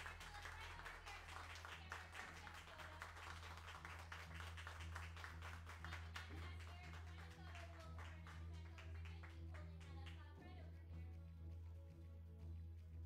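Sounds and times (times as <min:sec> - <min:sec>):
light applause: 0:00.0 - 0:13.0.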